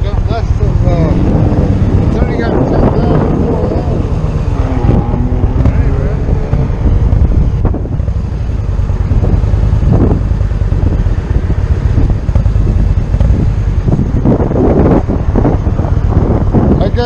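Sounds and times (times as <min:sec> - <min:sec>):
motorcycle engine rumble: 0:00.0 - 0:17.0
wind on microphone: 0:00.0 - 0:17.0.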